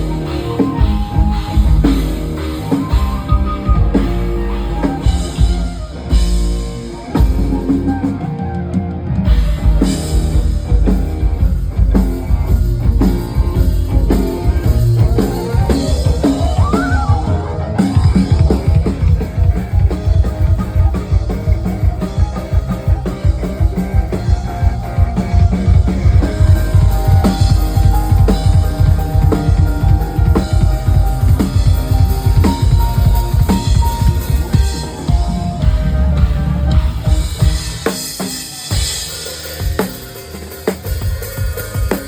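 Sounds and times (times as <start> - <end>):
loud music with heavy drum beat: 0.0 - 42.0.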